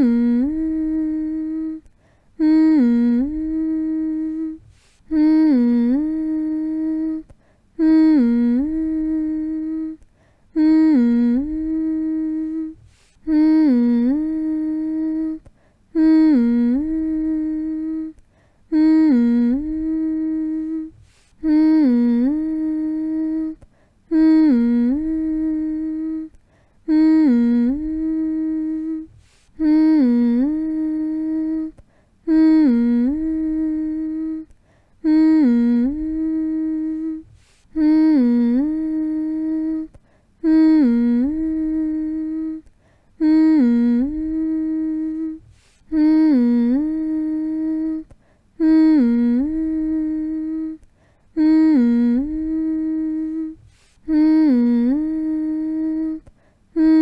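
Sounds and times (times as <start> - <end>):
person humming: 0.0 - 57.0.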